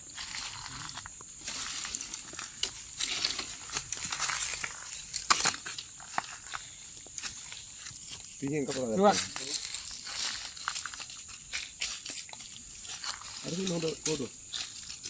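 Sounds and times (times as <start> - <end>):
leaves rustling and crunching: 0.0 - 15.0
twigs snapping: 1.4 - 15.0.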